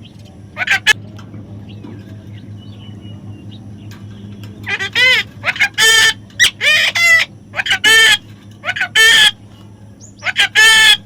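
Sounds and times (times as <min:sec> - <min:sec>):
bird harsh calls: 0:00.0 - 0:01.0, 0:01.7 - 0:11.0
low hum: 0:00.0 - 0:10.4.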